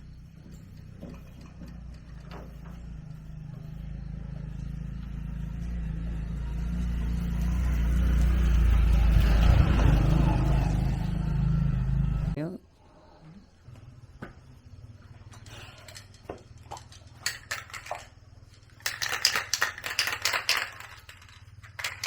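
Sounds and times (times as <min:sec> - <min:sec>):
engine running: 0:00.0 - 0:12.4, 0:13.6 - 0:22.0.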